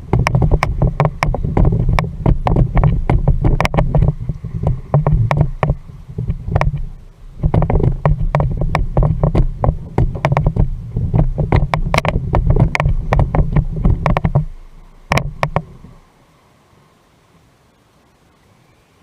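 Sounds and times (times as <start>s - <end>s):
kayak gear knocking and rattling: 0.0s - 16.0s
low rumble: 0.0s - 16.0s.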